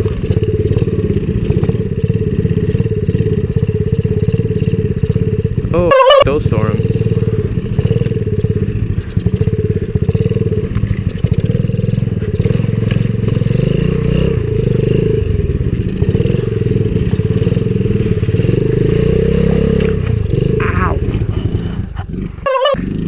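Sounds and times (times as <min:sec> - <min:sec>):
small motorbike engine running: 0:00.0 - 0:23.0.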